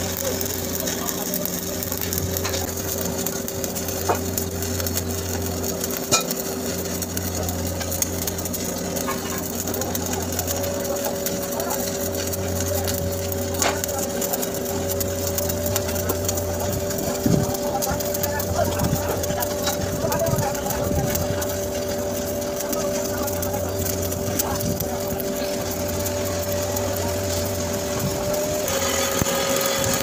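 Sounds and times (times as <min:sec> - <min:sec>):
welding arc crackling: 0:00.0 - 0:30.0.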